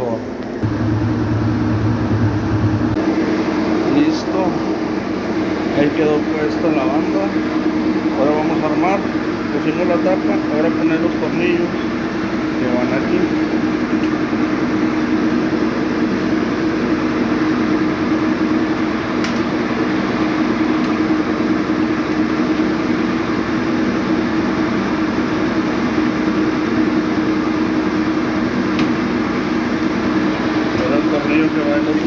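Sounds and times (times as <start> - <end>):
machine drone: 0.6 - 32.0.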